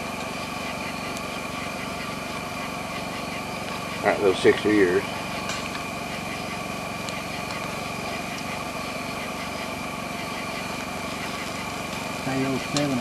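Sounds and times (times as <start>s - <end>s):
small engine idling: 0.0s - 13.0s
wood fire crackling: 0.0s - 13.0s.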